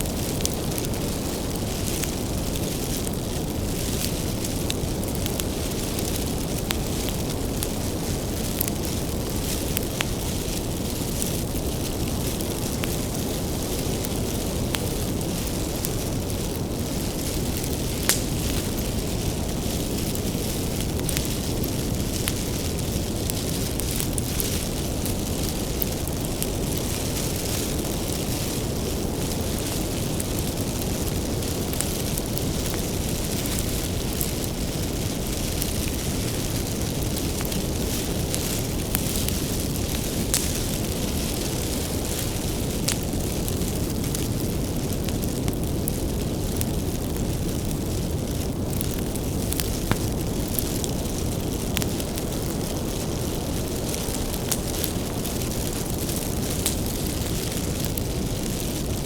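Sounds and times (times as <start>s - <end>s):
fire flames rumbling: 0.0s - 59.0s
wood crackling and popping: 0.0s - 59.0s.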